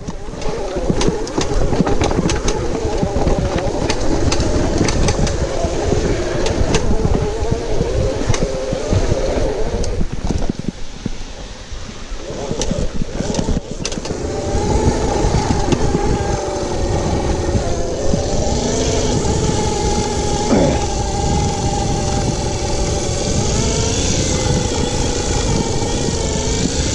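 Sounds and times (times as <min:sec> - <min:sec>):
wind on microphone: 0:00.0 - 0:26.9.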